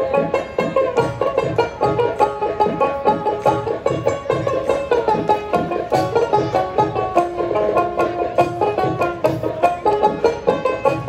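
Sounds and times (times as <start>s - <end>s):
plucked string instrument melody: 0.0s - 11.0s
steady drum beat: 0.0s - 11.0s.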